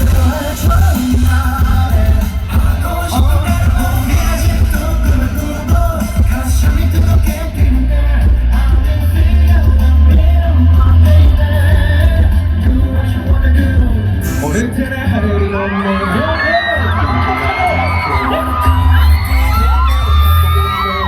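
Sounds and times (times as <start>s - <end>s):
boy band singing: 0.0s - 21.0s
pop backing track with bass beat: 0.0s - 21.0s.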